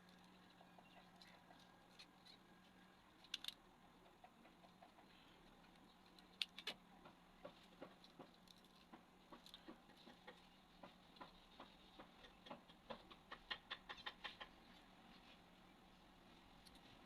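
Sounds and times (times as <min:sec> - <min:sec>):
faint low hum: 0:00.0 - 0:13.3, 0:14.4 - 0:17.0.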